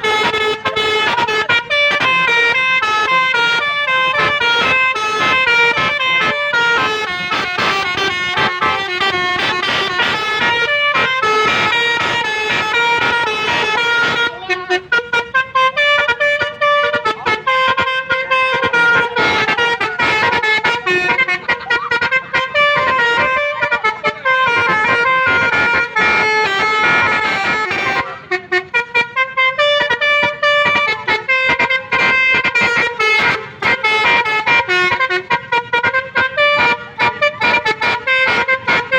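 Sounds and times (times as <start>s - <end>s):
multi-tone horn playing a tune: 0.0s - 38.9s.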